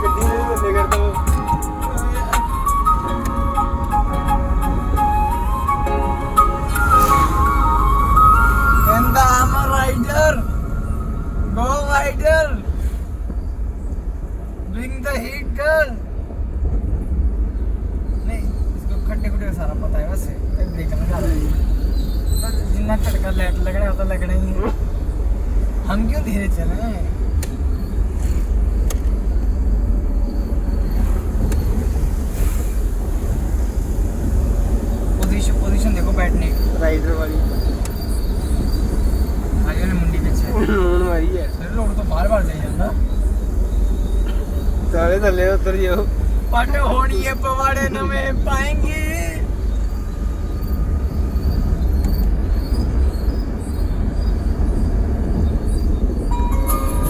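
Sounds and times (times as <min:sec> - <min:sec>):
rumble of vehicles at speed: 0:00.0 - 0:57.0
wind and road noise: 0:00.0 - 0:57.0.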